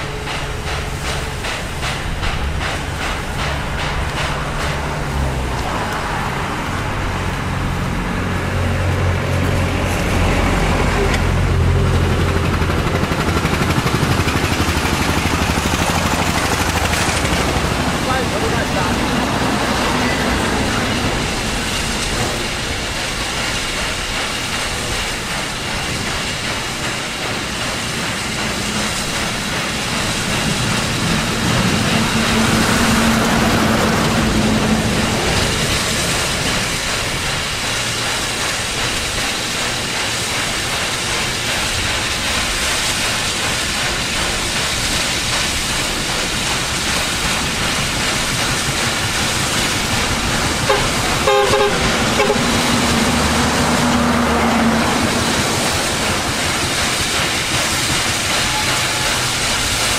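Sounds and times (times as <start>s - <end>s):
steam locomotive exhaust: 0.0s - 59.9s
train rolling: 0.0s - 59.9s.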